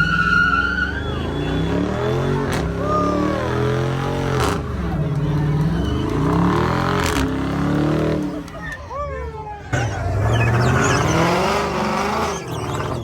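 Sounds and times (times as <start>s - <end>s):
car engine revving: 1.0s - 8.6s, 9.7s - 13.0s.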